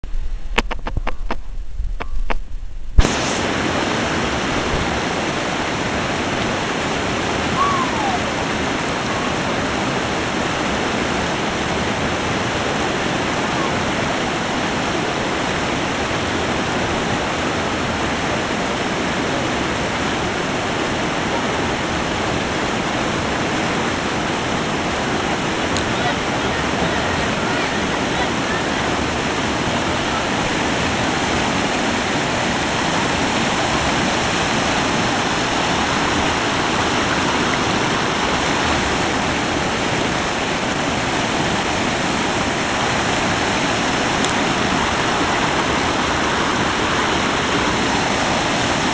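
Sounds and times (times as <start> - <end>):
waterfall rushing: 3.0 - 48.9.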